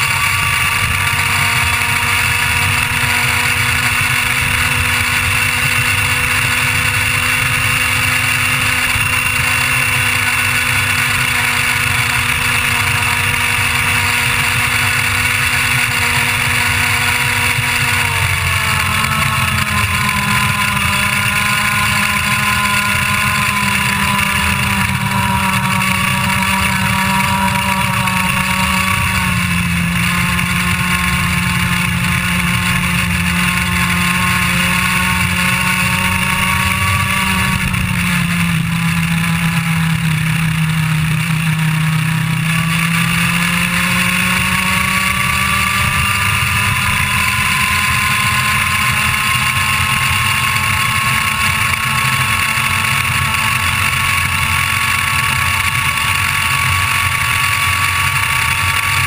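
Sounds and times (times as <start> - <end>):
two-stroke kart engine running hard: 0.0 - 59.0.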